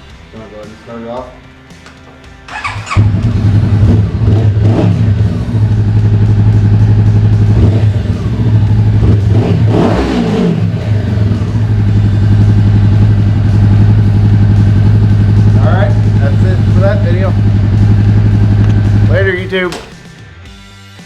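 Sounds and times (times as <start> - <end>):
motorcycle engine idling and revving: 1.7 - 20.6.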